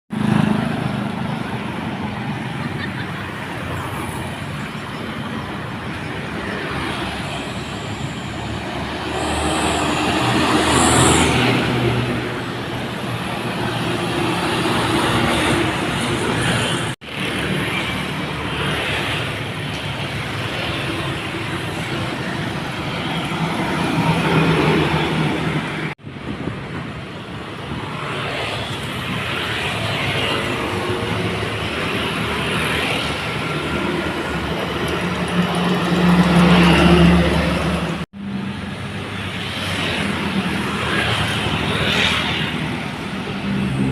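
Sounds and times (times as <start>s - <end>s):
dump truck diesel engines: 0.1s - 43.9s
road noise on wet road: 0.1s - 43.9s.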